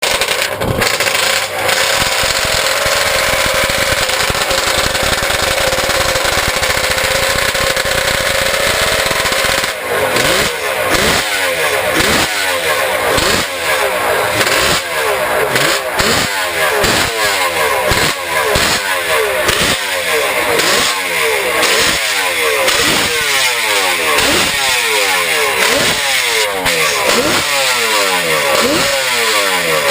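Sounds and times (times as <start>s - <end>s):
two-stroke motorcycle engine revving: 0.0s - 29.9s.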